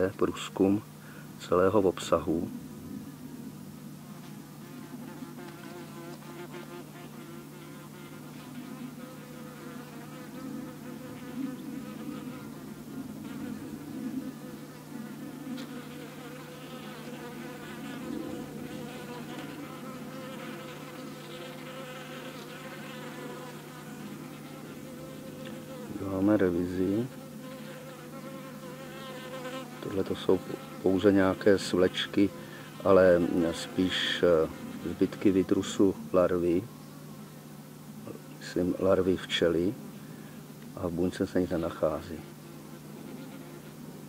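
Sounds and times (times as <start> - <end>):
bees buzzing: 2.0 - 44.0.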